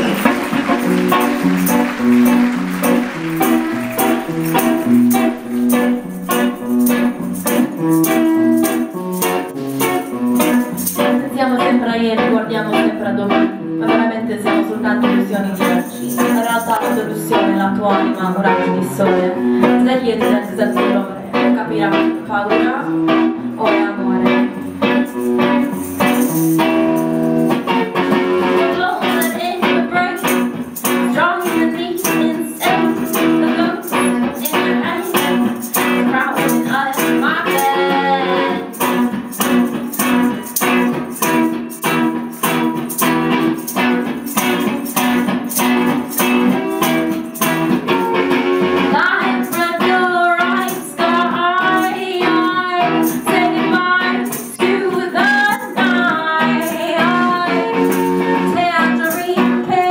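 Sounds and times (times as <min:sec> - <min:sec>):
person singing: 0:00.0 - 0:25.2, 0:27.7 - 0:40.8, 0:48.9 - 0:59.9
guitar strumming: 0:00.0 - 0:59.9.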